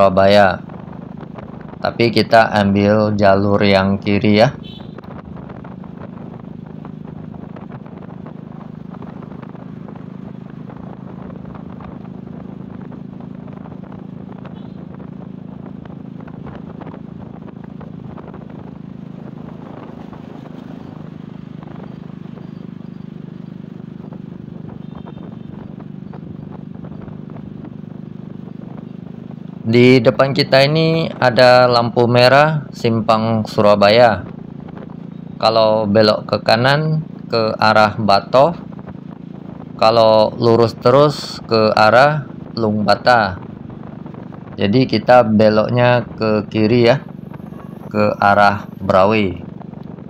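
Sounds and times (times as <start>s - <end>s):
motorcycle engine humming: 0.0s - 50.0s
wind and road rushing: 0.0s - 50.0s.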